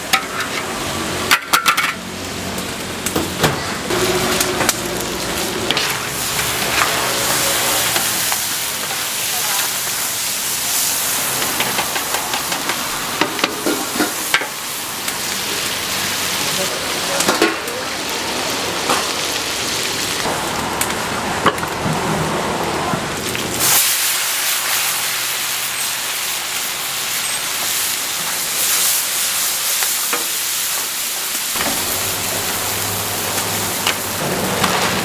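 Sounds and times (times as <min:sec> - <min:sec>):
noodles sizzling in a hot pan: 0:03.9 - 0:21.7, 0:22.3 - 0:35.0.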